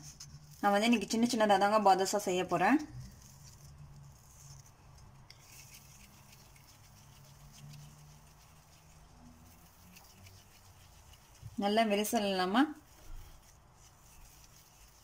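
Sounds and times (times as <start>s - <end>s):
hands rolling dough: 0.0s - 15.0s.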